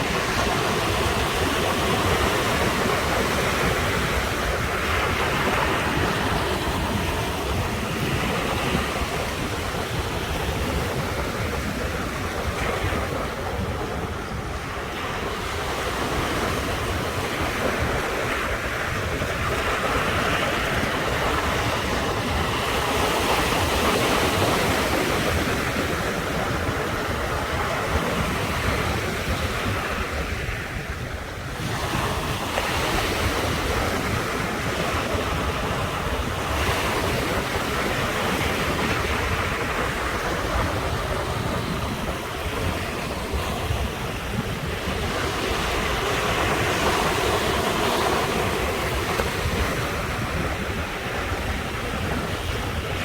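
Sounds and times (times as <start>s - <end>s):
ocean surf breaking: 0.0s - 53.0s.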